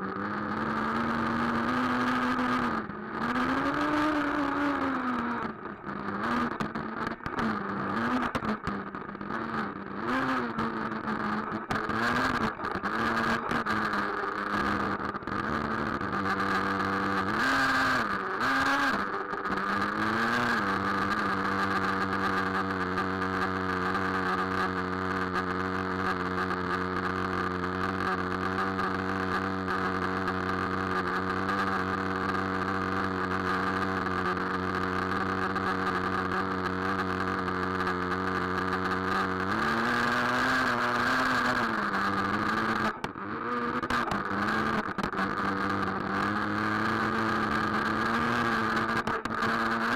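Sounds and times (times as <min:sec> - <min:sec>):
engine throttle blips: 0:00.0 - 0:49.9
small two-stroke engine idling: 0:00.0 - 0:49.9.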